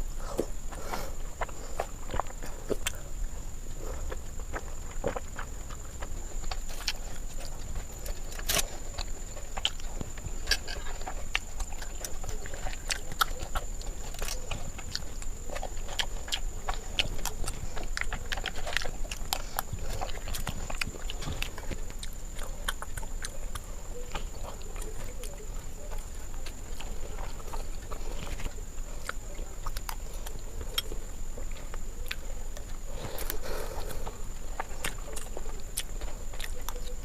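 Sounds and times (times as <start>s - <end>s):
chewing and mouth noises: 0.0s - 37.0s.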